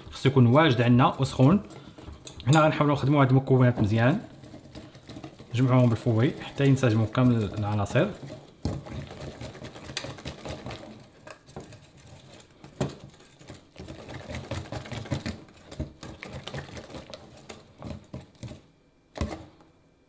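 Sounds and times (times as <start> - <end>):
whisk beating batter in bowl: 0.0 - 19.4.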